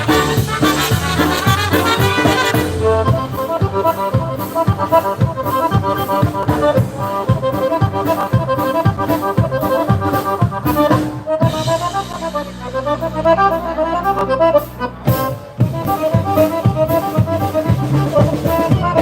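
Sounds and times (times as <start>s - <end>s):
accordion melody: 0.0s - 19.0s
oom-pah bass beat: 0.0s - 19.0s.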